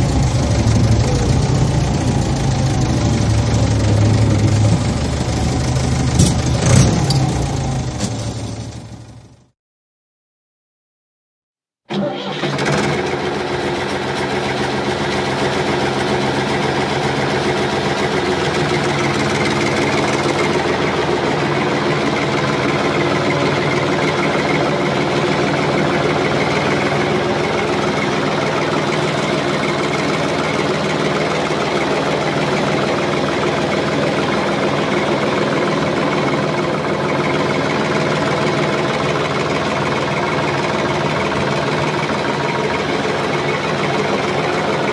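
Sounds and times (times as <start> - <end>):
tractor diesel engine idling: 0.0 - 9.5, 11.9 - 44.9.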